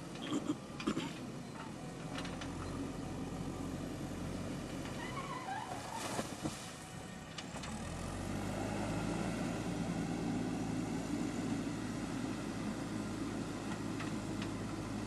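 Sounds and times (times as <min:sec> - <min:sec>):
diesel engine running: 0:00.0 - 0:05.9, 0:06.7 - 0:15.0.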